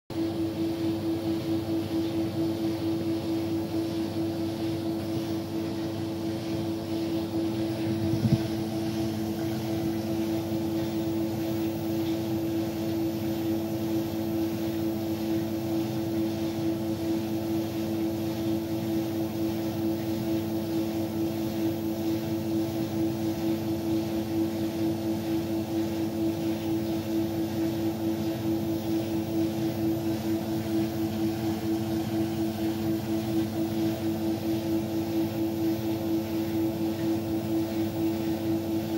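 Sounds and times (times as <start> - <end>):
washing machine drum spinning: 0.1 - 38.9.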